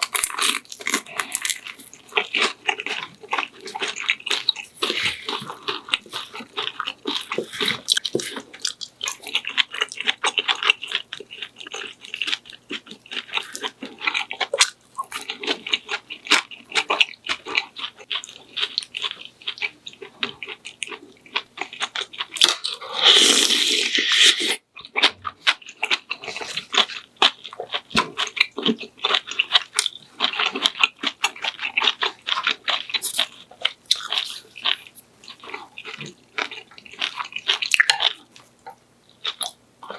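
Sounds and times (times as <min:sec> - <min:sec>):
wet chewing and crunching: 0:00.0 - 0:22.8, 0:24.8 - 0:39.9.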